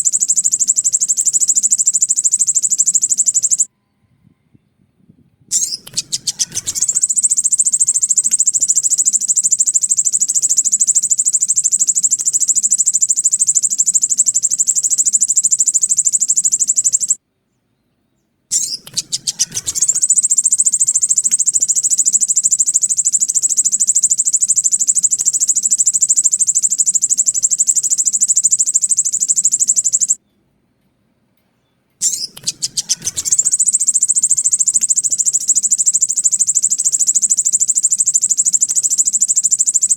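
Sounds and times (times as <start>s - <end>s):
sunbird high rapid trill: 0.0s - 3.7s, 5.5s - 17.2s, 18.5s - 30.2s, 32.0s - 39.9s.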